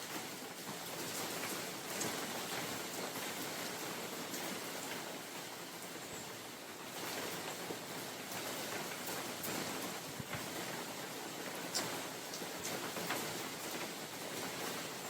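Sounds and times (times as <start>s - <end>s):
rain falling through forest: 0.0s - 15.0s
raindrops ticking on leaves: 0.0s - 15.0s.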